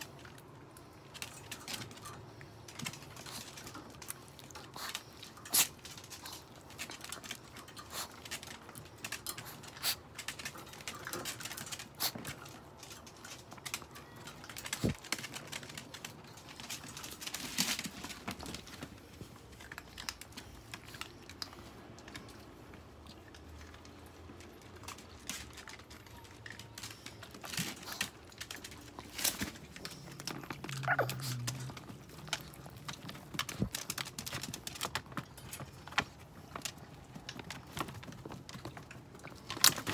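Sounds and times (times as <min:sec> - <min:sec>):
dogs clicking and scratching: 0:00.0 - 0:39.9.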